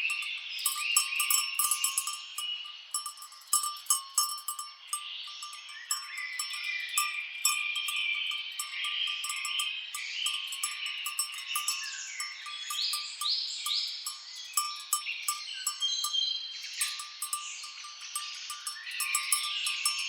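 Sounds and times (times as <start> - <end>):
birds chirping: 0.0 - 20.0
cattle bells clinking: 0.0 - 20.0.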